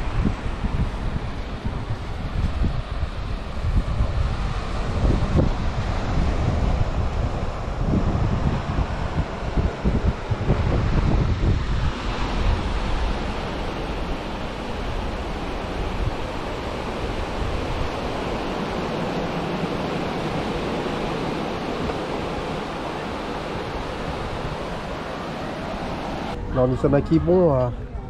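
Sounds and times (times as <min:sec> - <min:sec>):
sea water rushing: 0:00.0 - 0:27.8
wind: 0:00.0 - 0:28.0.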